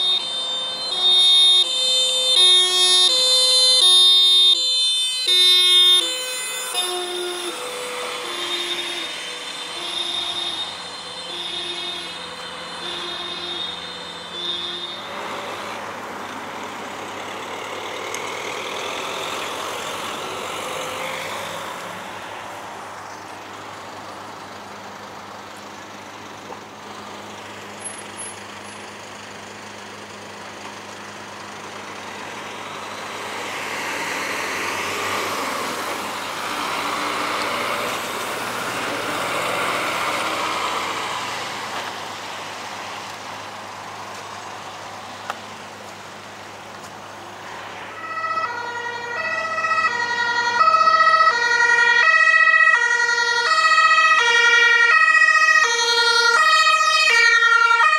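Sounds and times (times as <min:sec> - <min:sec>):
large vehicles driving past: 0:00.7 - 0:57.9.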